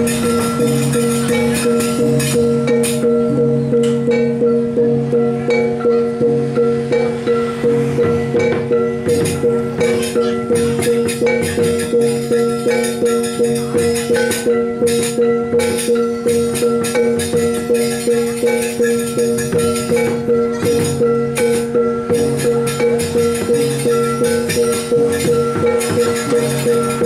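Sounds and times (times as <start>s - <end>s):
gamelan metal percussion: 0.0s - 27.0s.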